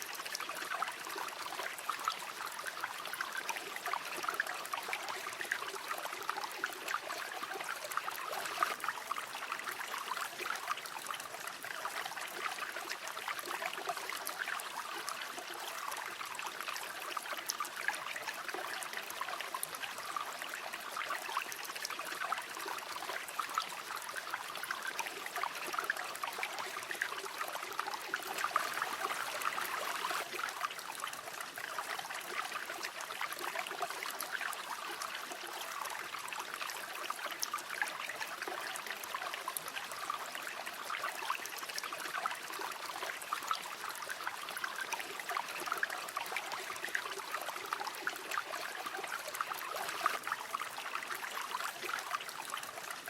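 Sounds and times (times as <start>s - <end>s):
river water flowing over stones: 0.0s - 53.0s.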